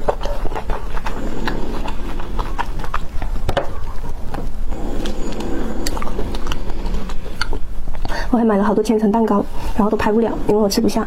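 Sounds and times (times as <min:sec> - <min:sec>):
chewing fruit: 0:00.0 - 0:11.0.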